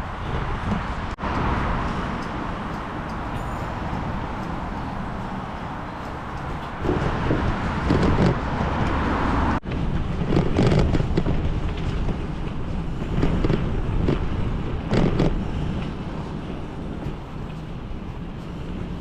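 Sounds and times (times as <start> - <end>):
bike road noise: 0.0 - 19.0
wind buffeting microphone: 0.0 - 19.0.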